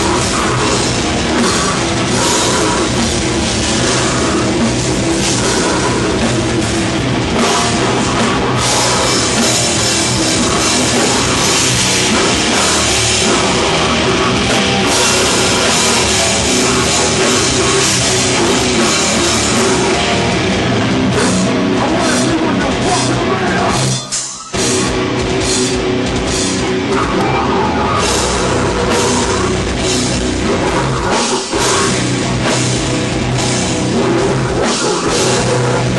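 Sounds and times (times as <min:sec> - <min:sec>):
death metal band playing live: 0:00.0 - 0:35.9
drum kit: 0:00.0 - 0:35.9.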